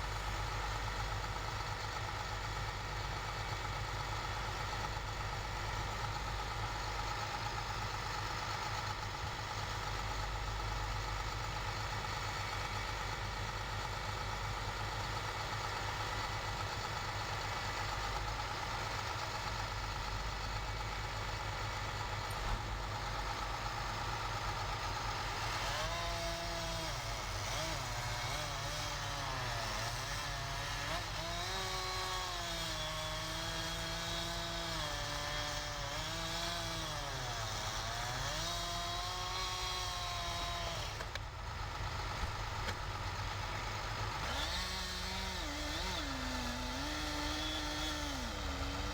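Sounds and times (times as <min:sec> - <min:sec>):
large engine idling: 0:00.0 - 0:34.1, 0:38.9 - 0:48.9.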